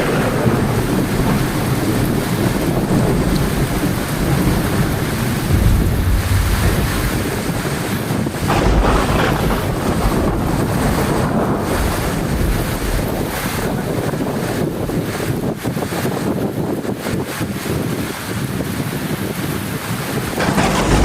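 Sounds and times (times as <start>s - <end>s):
low rumbles of thunder: 0.0s - 16.7s, 20.0s - 21.0s
heavy rain falling: 0.0s - 21.0s.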